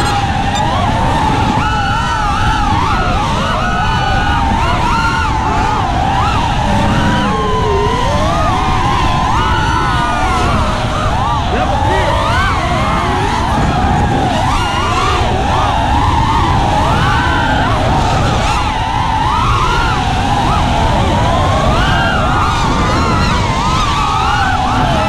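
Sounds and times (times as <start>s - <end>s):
racing quadcopters whining: 0.0s - 25.0s
rush of prop wash and wind: 0.0s - 25.0s.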